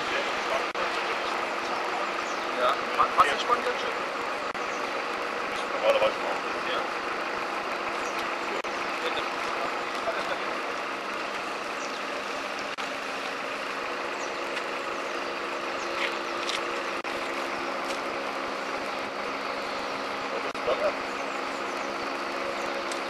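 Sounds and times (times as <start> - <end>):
truck engine humming: 0.0 - 23.0.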